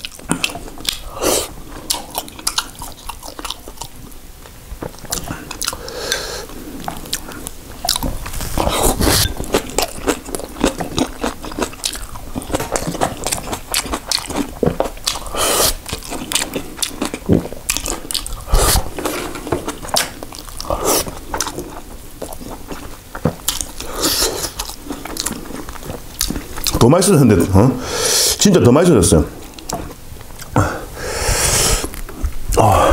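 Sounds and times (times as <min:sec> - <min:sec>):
wet chewing with crunches: 0:00.0 - 0:26.8, 0:29.4 - 0:30.6.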